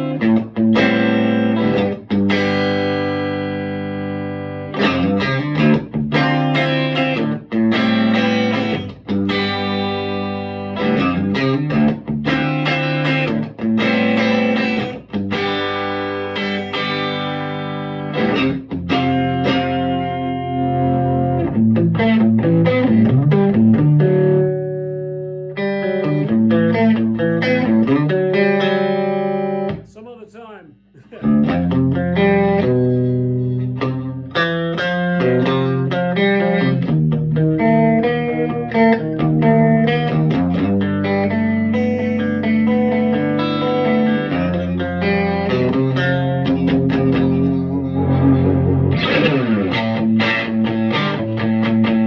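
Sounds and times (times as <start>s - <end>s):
overdriven electric guitar strumming: 0.0s - 29.9s, 31.1s - 52.0s.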